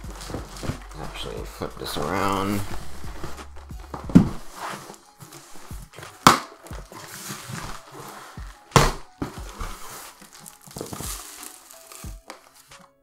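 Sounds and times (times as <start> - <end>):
cardboard box flaps rustling: 0.0 - 1.2, 2.2 - 12.7.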